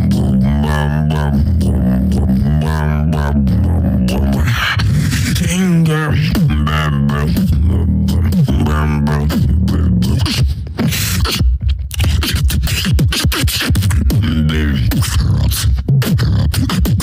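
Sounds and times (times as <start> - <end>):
sung wavering bass line: 0.0 - 12.5, 13.9 - 17.0
beatbox mouth-percussion hits: 0.0 - 17.0.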